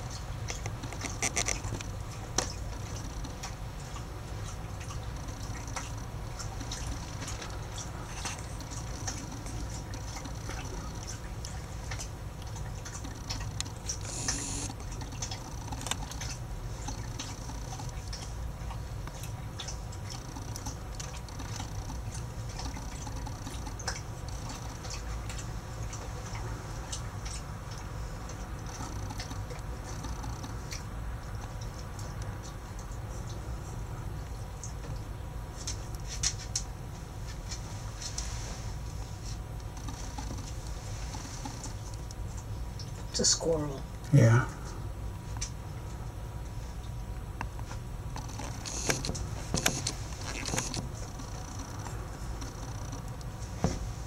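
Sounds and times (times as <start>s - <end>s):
small clicks and ticks: 0.0s - 38.3s, 39.0s - 44.2s, 46.8s - 53.8s
low background hum: 0.0s - 54.0s.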